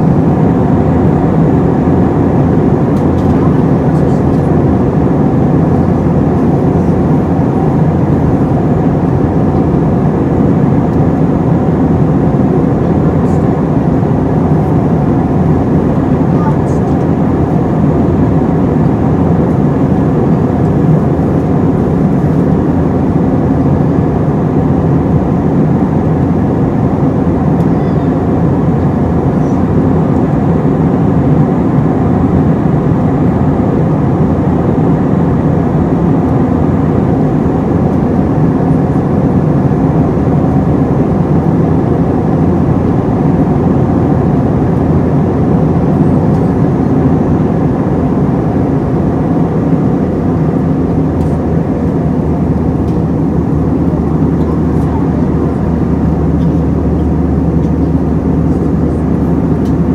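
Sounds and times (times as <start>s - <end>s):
air rushing over fuselage: 0.0s - 59.9s
jet engines droning: 0.0s - 59.9s.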